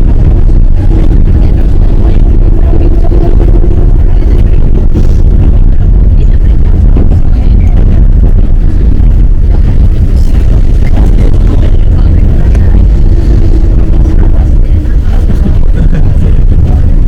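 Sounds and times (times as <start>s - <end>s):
electric train rumbling: 0.0s - 17.0s
faint hum: 0.0s - 17.0s.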